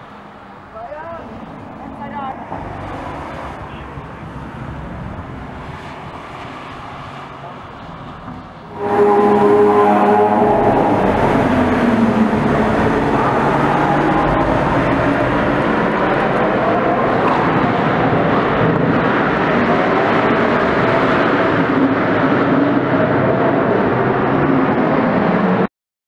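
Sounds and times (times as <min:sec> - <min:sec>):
car engine loud drone: 0:00.0 - 0:25.7.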